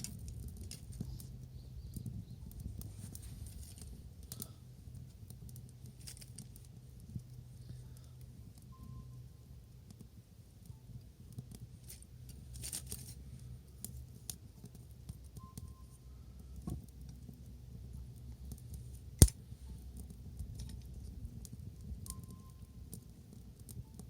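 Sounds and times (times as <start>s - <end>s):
wood fire crackling: 0.0s - 9.0s, 9.6s - 24.0s
low steady rumble: 0.0s - 24.0s.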